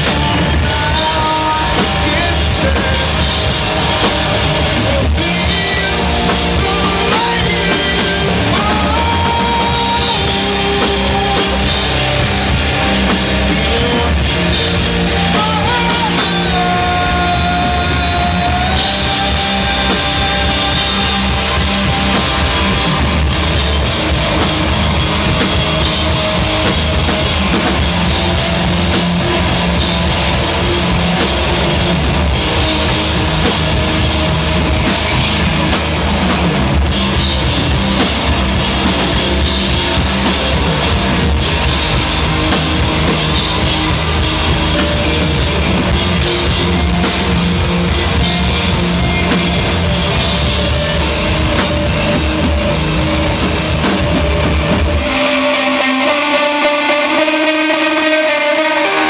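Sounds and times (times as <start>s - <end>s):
drum kit: 0.0s - 59.0s
electric guitars through amplifiers: 0.0s - 59.0s.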